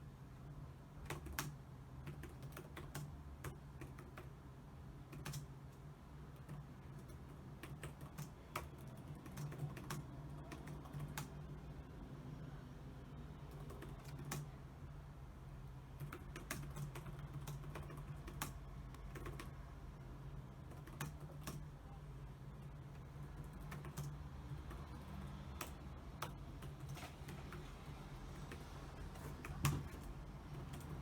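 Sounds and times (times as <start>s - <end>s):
typing on a computer keyboard: 1.0s - 4.4s, 5.0s - 11.6s, 13.4s - 14.6s, 15.9s - 19.9s, 20.5s - 22.0s, 22.6s - 31.0s.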